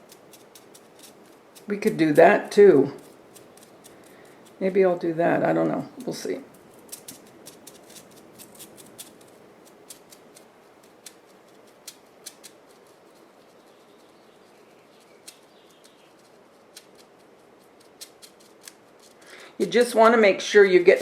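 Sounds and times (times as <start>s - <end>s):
paintbrush clicks and scratches: 0.0s - 19.3s.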